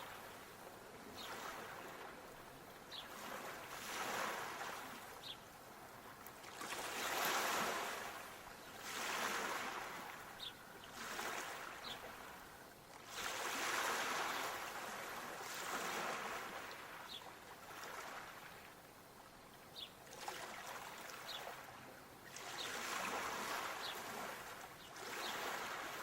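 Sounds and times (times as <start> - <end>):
small waves washing onto shore: 0.0 - 18.9, 20.0 - 26.0.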